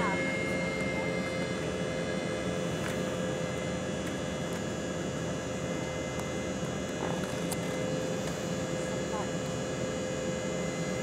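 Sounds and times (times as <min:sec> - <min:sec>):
constant whine: 0:00.0 - 0:11.0
jet engine and airflow noise: 0:00.0 - 0:11.0.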